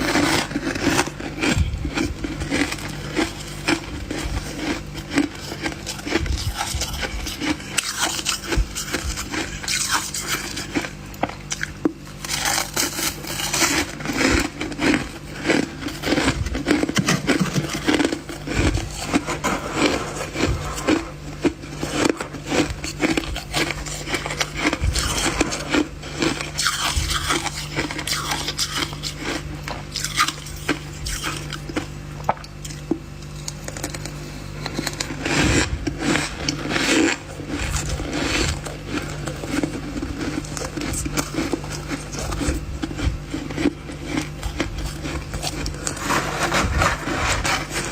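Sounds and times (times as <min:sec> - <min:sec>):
crunching and chewing ice: 0:00.0 - 0:47.9.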